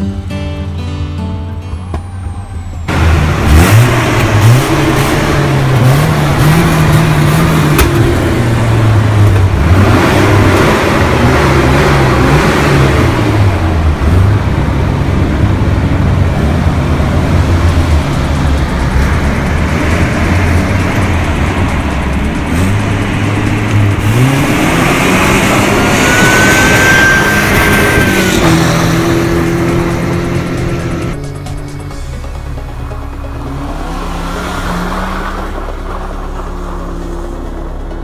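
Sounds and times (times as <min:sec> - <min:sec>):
car engine revving: 0:01.8 - 0:38.0.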